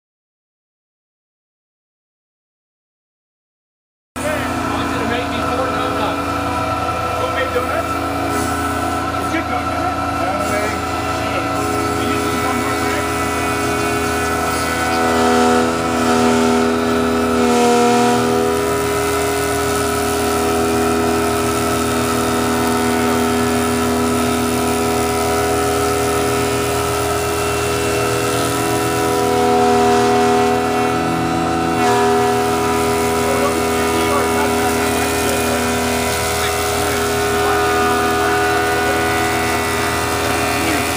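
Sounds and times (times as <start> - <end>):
power tool motor running: 4.2 - 40.9.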